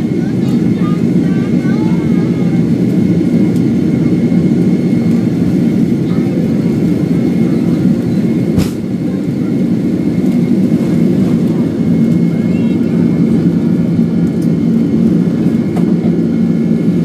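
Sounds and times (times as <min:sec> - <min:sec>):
engine whine: 0:00.0 - 0:17.0
jet engines roaring in cabin: 0:00.0 - 0:17.0.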